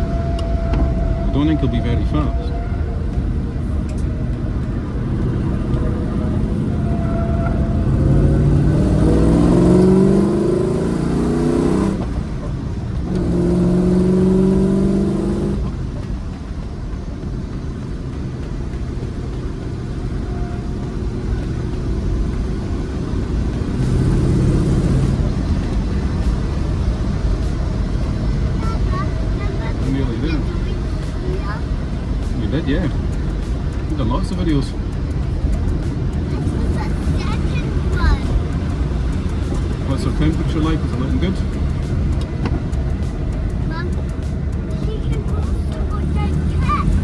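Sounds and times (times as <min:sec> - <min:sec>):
car engine accelerating: 0:00.0 - 0:47.0.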